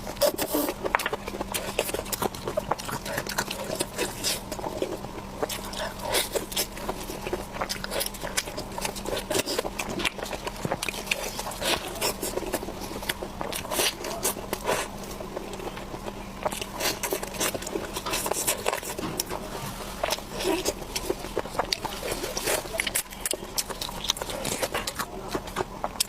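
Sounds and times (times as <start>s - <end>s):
wet chewing mouth sounds: 0.0s - 26.0s.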